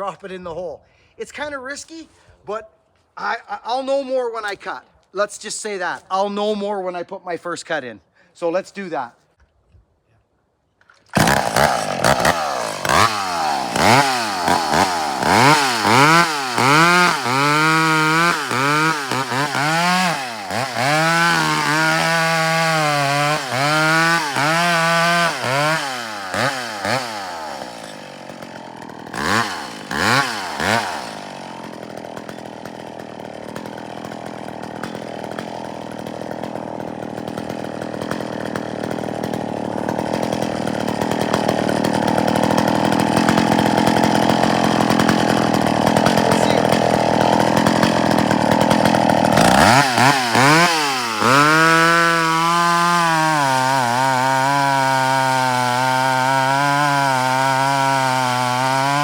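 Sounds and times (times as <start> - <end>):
chainsaw revving: 11.1 - 59.0.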